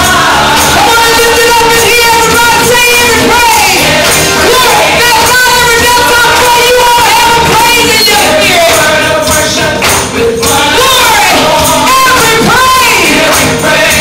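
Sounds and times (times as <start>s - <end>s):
gospel music singing: 0.0s - 14.0s
tambourine shaking: 0.0s - 14.0s.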